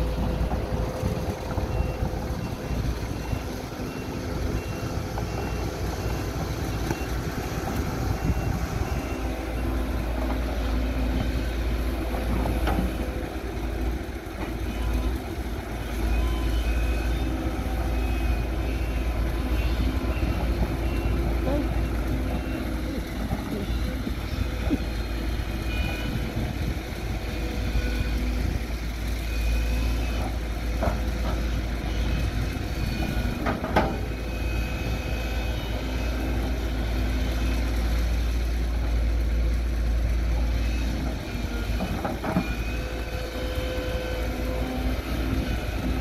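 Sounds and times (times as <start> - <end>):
heavy machine engine rumbling: 0.0 - 46.0.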